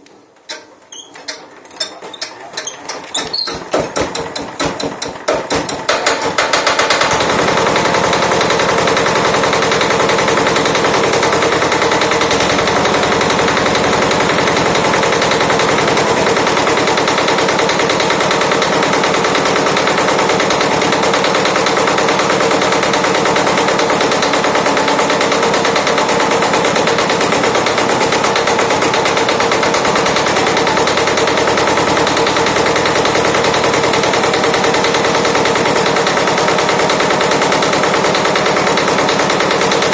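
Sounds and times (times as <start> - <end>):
diesel engine clattering: 2.1 - 39.9.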